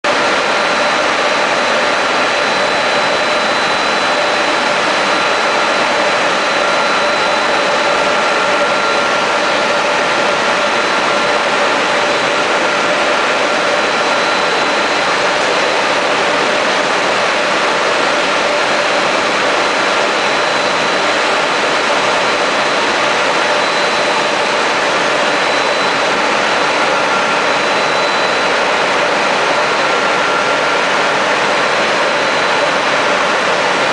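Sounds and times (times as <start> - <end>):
car wash machine rushing: 0.1 - 33.9.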